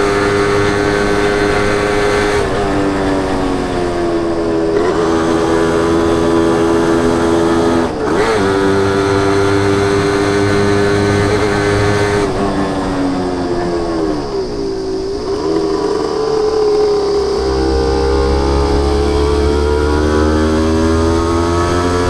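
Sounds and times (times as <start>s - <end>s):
motorcycle engine exhaust: 0.0s - 22.0s.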